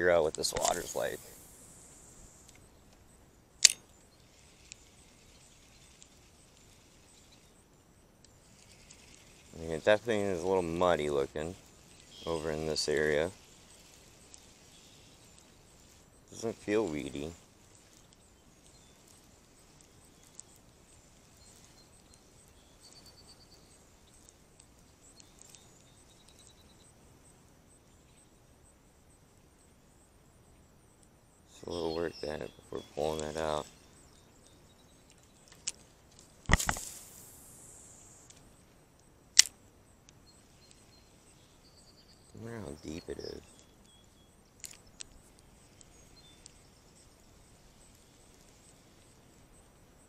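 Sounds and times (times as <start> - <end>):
fast chirping trills: 0.0 - 27.0, 31.5 - 35.7, 40.2 - 49.3
high insect drone: 0.0 - 50.0
faint ticks: 0.1 - 50.0.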